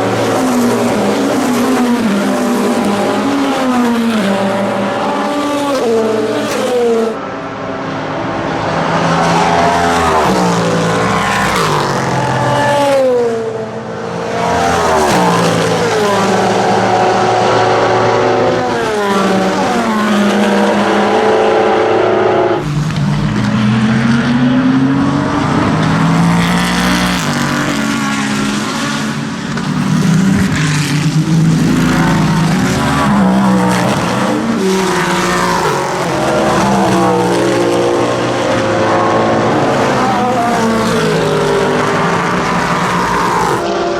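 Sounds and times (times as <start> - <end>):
racing engine at high revs: 0.0 - 43.9.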